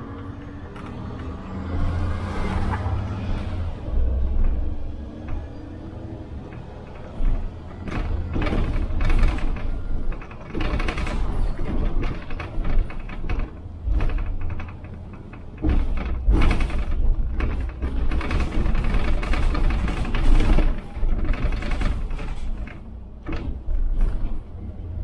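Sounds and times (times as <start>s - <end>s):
bus engine running: 0.0s - 25.0s
rattling and clattering: 0.6s - 25.0s.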